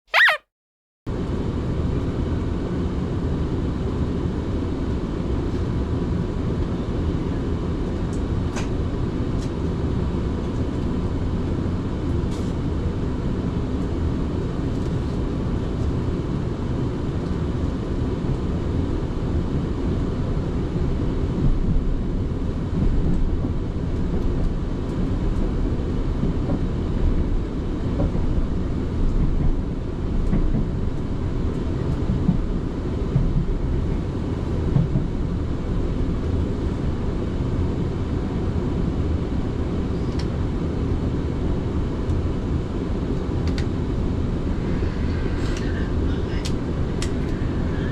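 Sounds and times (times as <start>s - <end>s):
train rumble from inside carriage: 1.1s - 47.9s.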